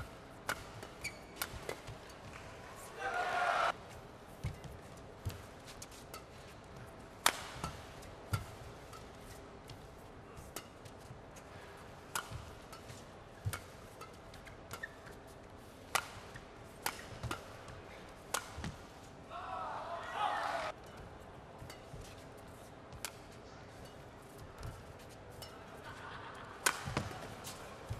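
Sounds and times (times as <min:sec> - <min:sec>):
rackets hitting shuttlecock: 0:00.0 - 0:19.3, 0:20.6 - 0:27.9.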